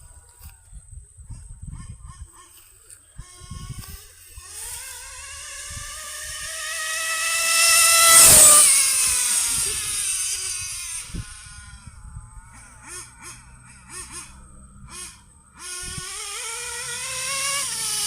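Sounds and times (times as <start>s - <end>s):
rc car engine screaming: 2.2s - 18.0s.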